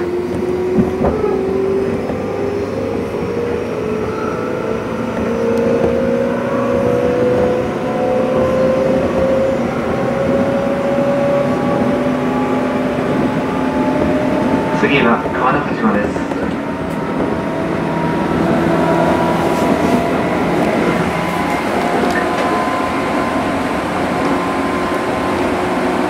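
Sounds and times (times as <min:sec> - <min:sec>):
rumble of wheels on rails: 0:00.0 - 0:26.0
train traction motors whining: 0:00.0 - 0:26.0.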